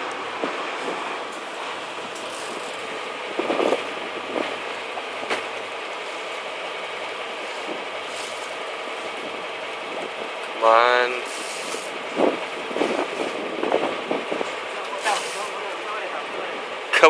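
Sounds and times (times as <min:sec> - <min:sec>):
boat engine running: 0:00.0 - 0:17.0
sea rushing: 0:00.0 - 0:17.0.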